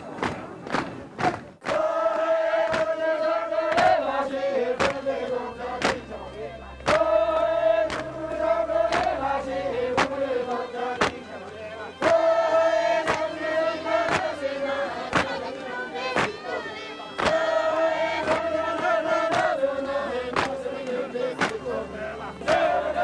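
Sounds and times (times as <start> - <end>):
group chanting in unison: 1.2 - 23.0.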